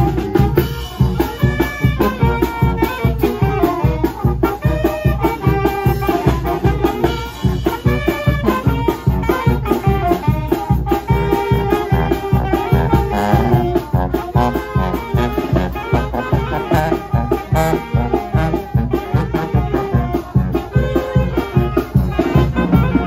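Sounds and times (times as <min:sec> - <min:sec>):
brass band playing dance tune: 0:00.0 - 0:23.0.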